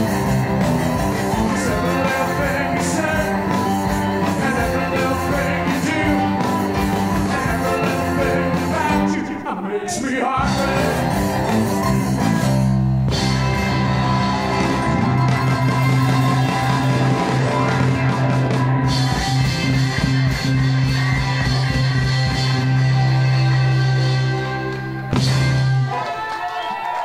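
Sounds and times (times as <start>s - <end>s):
electric guitar: 0.0s - 27.0s
rockabilly band playing: 0.0s - 27.0s.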